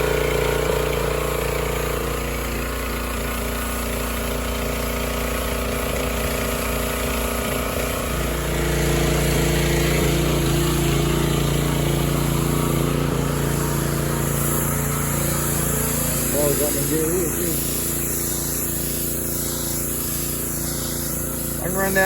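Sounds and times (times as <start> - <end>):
small gasoline engine running: 0.0 - 22.0.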